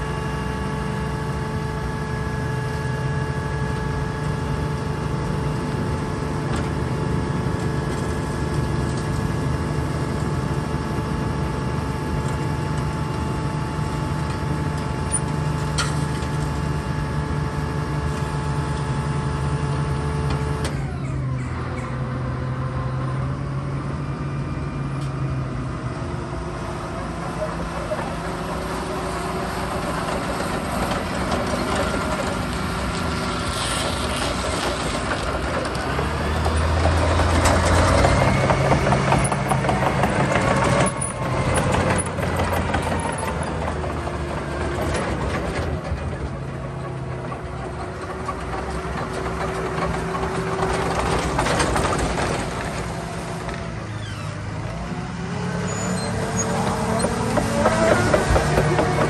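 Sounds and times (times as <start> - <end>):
diesel engine humming: 0.0 - 59.0
steady whining tones: 0.0 - 59.0.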